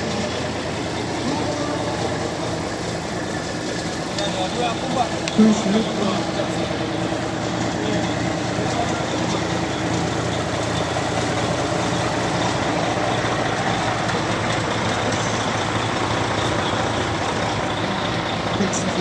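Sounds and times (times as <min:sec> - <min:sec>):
heavy truck engine idling: 0:00.0 - 0:19.0.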